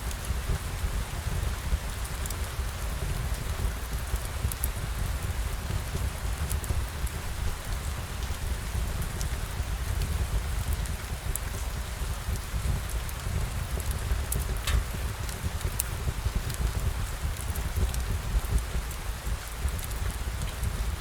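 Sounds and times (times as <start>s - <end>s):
steady rain hiss: 0.0s - 21.0s
rain drop ticks: 0.1s - 21.0s.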